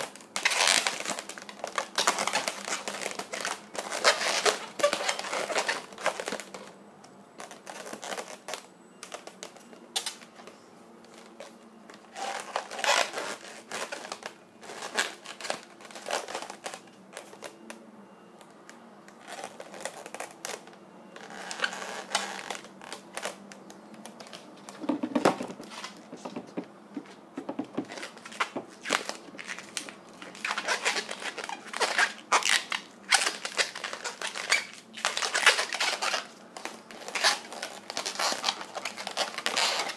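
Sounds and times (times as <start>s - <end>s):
balloons rubbing and squeaking: 0.0s - 6.6s, 11.2s - 17.6s, 19.2s - 23.4s, 24.1s - 39.9s.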